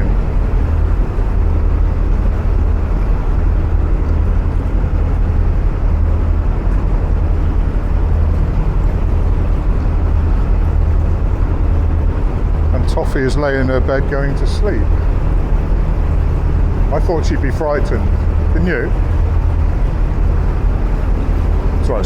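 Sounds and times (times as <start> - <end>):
diesel boat engine droning: 0.0 - 22.0.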